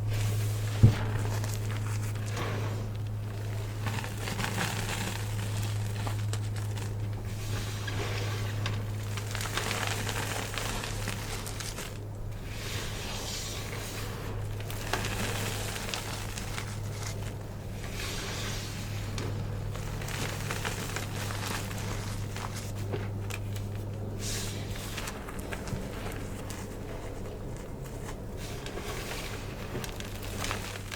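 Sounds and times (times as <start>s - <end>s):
chalk crackling and crunching: 0.0s - 30.9s.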